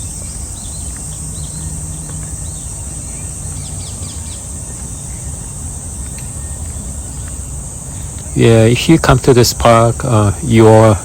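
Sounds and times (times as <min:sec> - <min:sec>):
bird chirps: 0:00.0 - 0:09.8
insects droning: 0:00.0 - 0:11.0.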